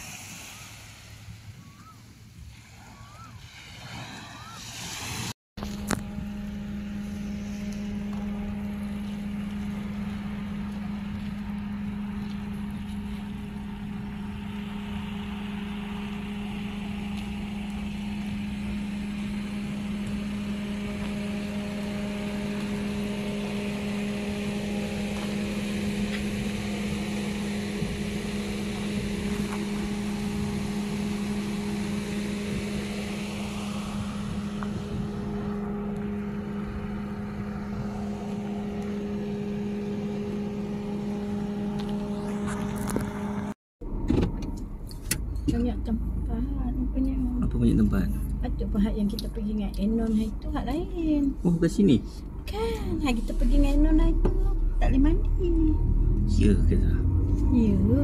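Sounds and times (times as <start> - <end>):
road noise hiss: 0.0 - 43.6, 46.1 - 57.7
car engine hum: 0.0 - 58.0.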